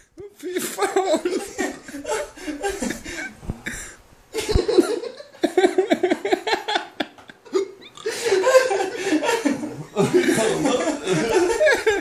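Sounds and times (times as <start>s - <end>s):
person laughing: 0.3s - 12.0s.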